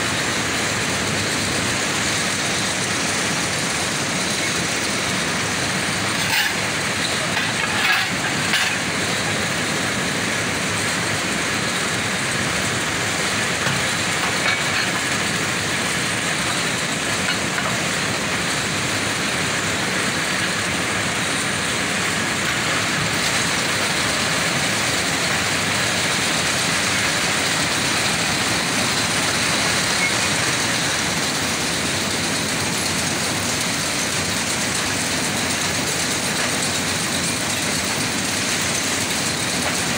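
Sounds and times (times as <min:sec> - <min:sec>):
mill machines running: 0:00.0 - 0:39.9.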